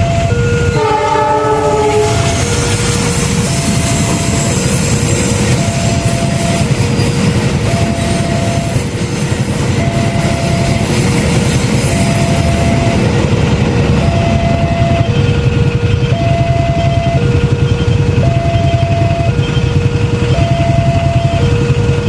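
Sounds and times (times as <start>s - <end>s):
train wheels rumbling on rails: 0.0s - 22.0s
two-tone level crossing alarm: 0.0s - 22.0s.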